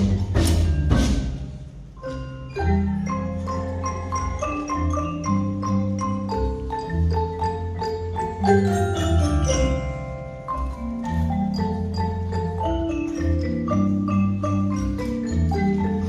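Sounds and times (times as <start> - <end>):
xylophones and glockenspiels playing: 0.0 - 16.0.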